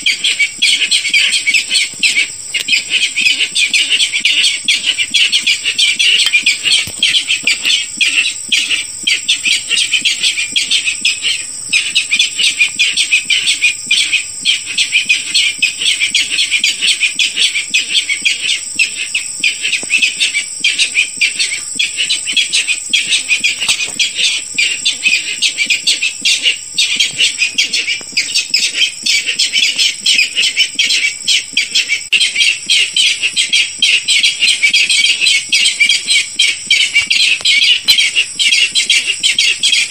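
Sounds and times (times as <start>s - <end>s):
bird calling rapid notes: 0.0s - 39.9s.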